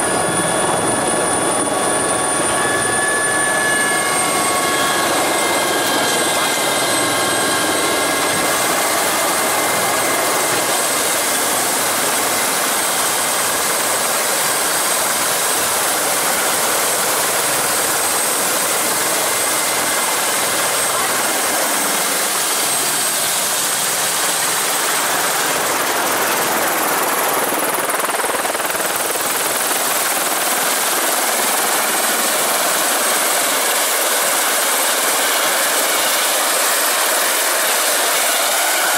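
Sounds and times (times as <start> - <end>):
helicopter rotor rushing: 0.0 - 38.9
high turbine whine: 0.0 - 38.9.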